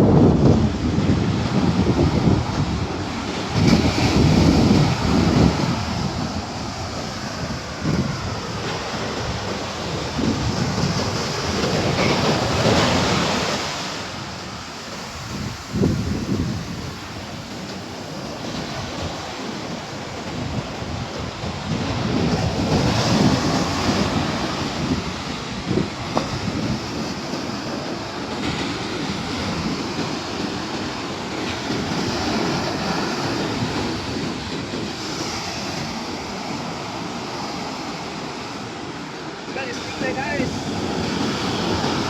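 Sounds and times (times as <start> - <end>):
sea waves washing onto beach: 0.0 - 42.0
wind buffeting microphone: 0.0 - 42.0.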